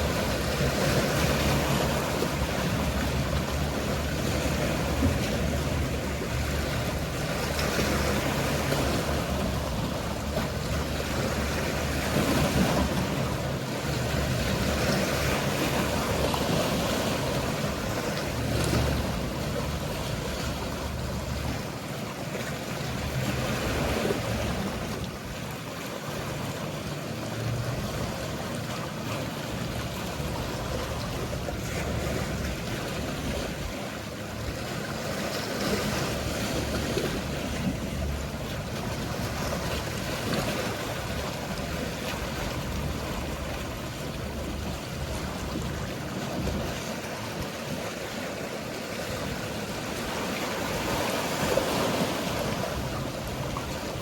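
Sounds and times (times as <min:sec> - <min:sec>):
low hum of boat engines: 0:00.0 - 0:54.0
sea waves washing in: 0:00.0 - 0:54.0.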